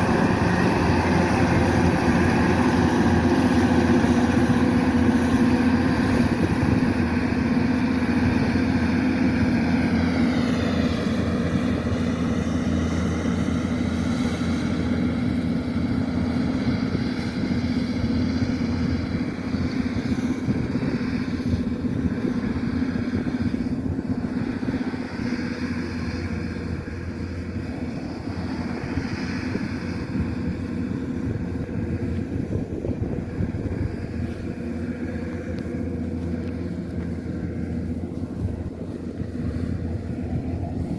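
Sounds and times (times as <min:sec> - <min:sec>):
combine harvester engine drone: 0:00.0 - 0:40.9.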